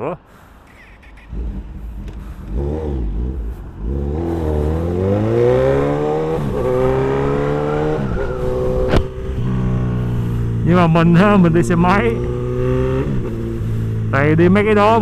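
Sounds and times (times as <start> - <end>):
motorcycle engine accelerating: 1.1 - 15.0.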